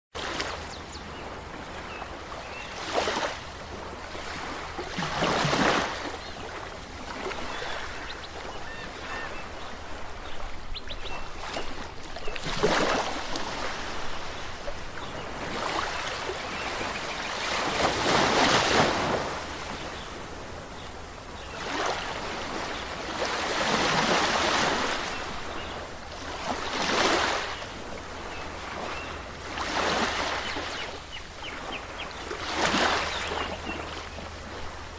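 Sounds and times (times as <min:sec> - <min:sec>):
waves breaking on shore: 0:00.2 - 0:34.9.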